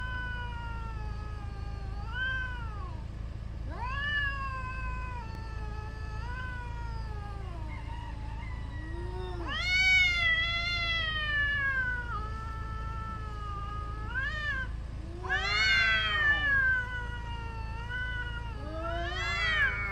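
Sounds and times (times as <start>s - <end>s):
cats yowling: 0.0s - 19.9s.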